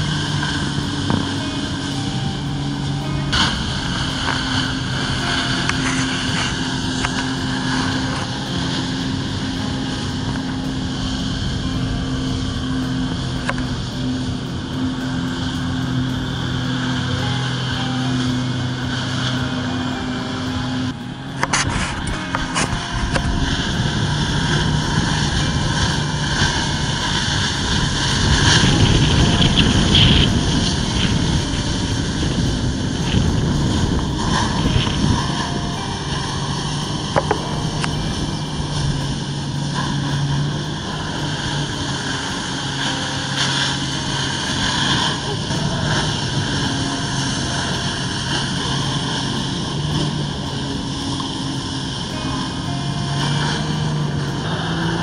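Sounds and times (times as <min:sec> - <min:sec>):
hissing water jets and spray: 0:00.0 - 0:55.0
jet ski engine droning: 0:00.0 - 0:55.0.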